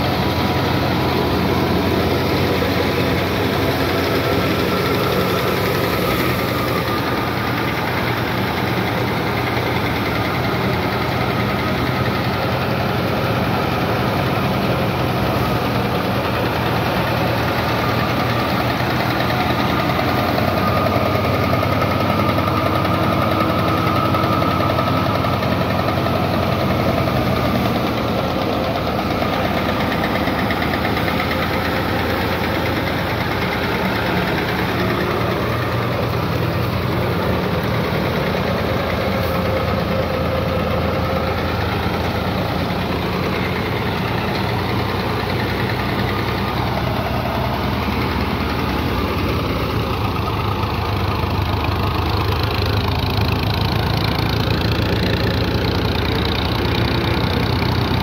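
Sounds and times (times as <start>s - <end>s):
thresher whirring and rattling: 0.0s - 58.0s
tractor diesel engine running: 0.0s - 58.0s.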